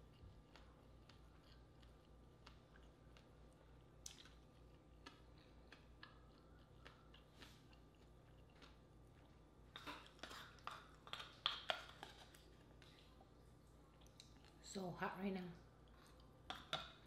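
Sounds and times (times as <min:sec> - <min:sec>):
faint chewing: 0:00.0 - 0:14.7, 0:15.8 - 0:17.0.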